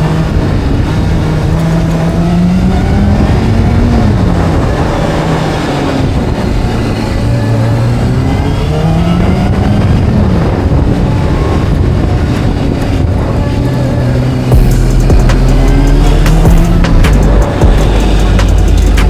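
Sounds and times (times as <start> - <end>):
motorcycle engine revving: 0.0 - 19.0
wind noise: 0.0 - 19.0.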